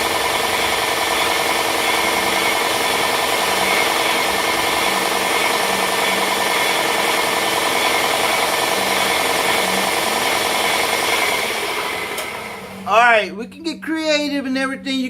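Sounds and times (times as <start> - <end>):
electric power tool running: 0.0 - 13.0.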